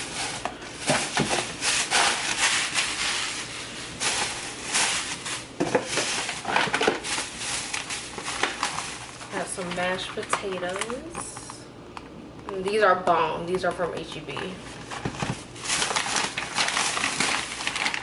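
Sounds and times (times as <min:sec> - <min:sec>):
plastic bags rustling: 0:00.0 - 0:11.4, 0:14.4 - 0:18.0
clothes dryer humming: 0:00.0 - 0:18.0.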